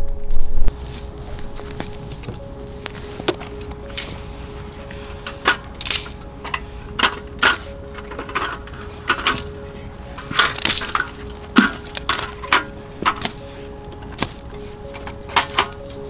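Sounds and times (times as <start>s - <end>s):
firewood cracking and snapping: 0.7s - 16.0s.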